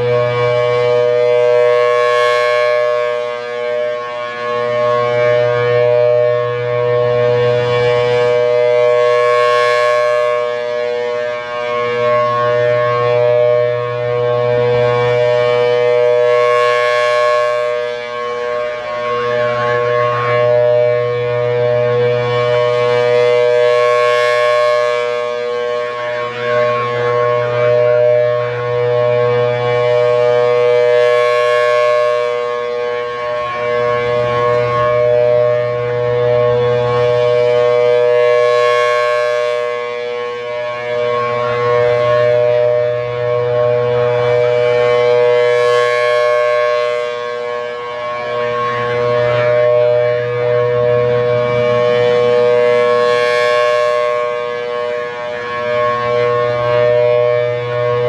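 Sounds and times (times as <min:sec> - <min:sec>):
warning siren chord: 0:00.0 - 0:58.0.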